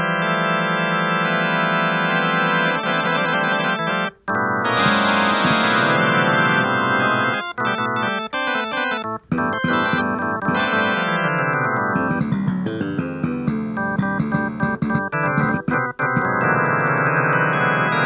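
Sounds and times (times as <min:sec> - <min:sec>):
organ-like keyboard chords: 0:00.0 - 0:18.0.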